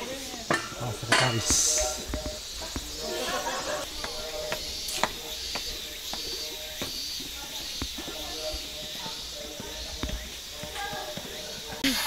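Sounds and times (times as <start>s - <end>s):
footsteps on a trail: 0.0s - 12.0s.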